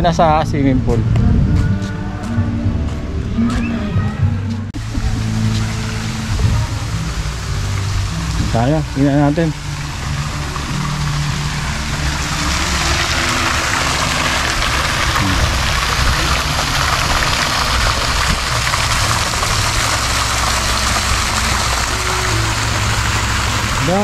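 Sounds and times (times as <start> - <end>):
splashing water rushing: 4.8 - 24.0.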